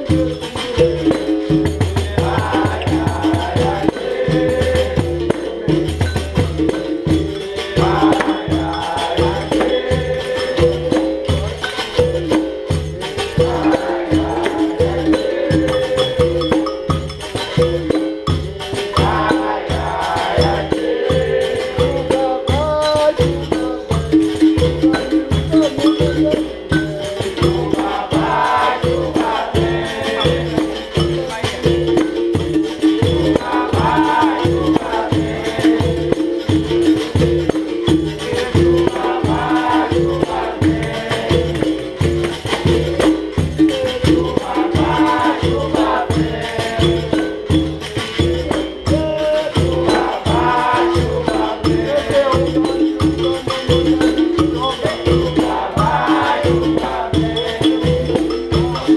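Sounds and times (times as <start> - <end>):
berimbau tones: 0.0 - 58.9
group singing: 0.0 - 58.9
hand drum: 0.0 - 58.9
rattling percussion: 0.0 - 58.9
tambourine: 0.0 - 58.9.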